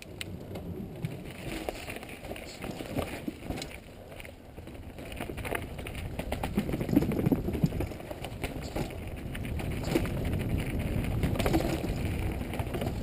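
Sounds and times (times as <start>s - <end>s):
bike clattering over bumps: 0.0s - 13.0s
tyres crunching over rocks: 0.0s - 13.0s.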